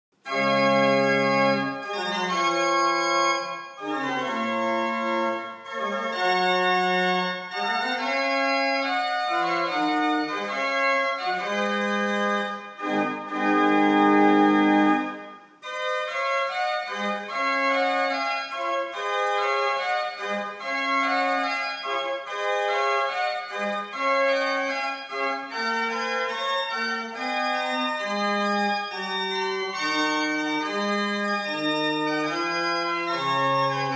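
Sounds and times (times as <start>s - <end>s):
pipe organ playing classical piece: 0.2s - 33.9s.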